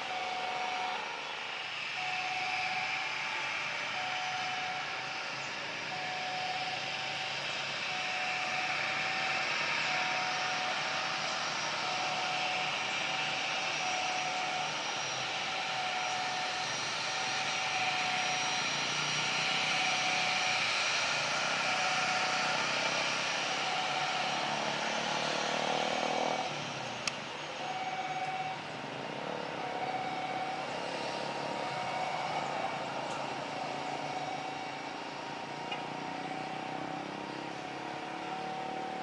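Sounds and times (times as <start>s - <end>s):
jet engine roar: 0.0s - 39.0s.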